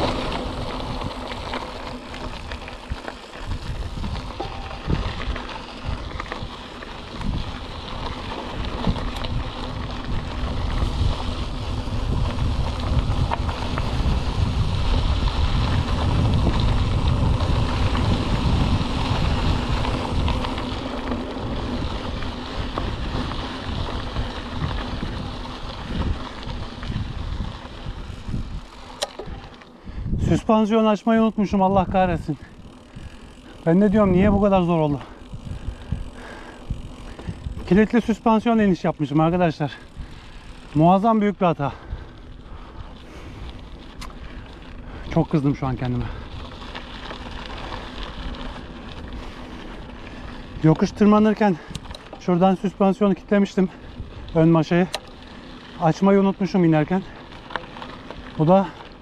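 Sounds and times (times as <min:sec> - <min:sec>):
tyres crunching on gravel: 0:00.0 - 0:29.8, 0:30.4 - 0:59.0
wind buffeting microphone: 0:00.0 - 0:38.5, 0:39.7 - 0:40.8, 0:41.5 - 0:55.8
bike rattling and knocking: 0:00.0 - 0:59.0.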